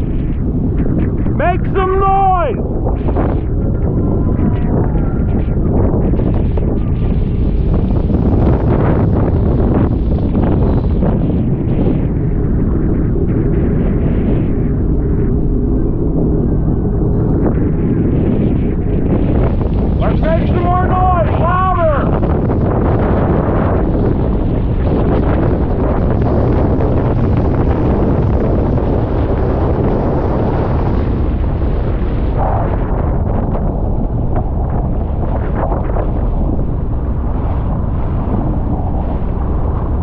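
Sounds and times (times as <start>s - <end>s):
choppy water: 0.0s - 40.0s
wind buffeting microphone: 0.0s - 40.0s.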